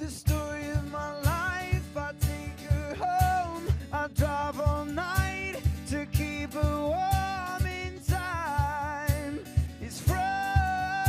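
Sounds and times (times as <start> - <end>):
man singing: 0.0 - 11.0
steady low beat: 0.0 - 11.0
strummed acoustic guitar: 0.0 - 11.0.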